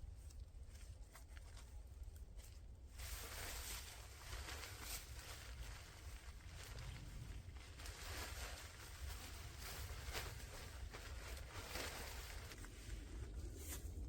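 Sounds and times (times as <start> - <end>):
rustling and handling noises: 0.0 - 14.0
steady low rumble: 0.0 - 14.0.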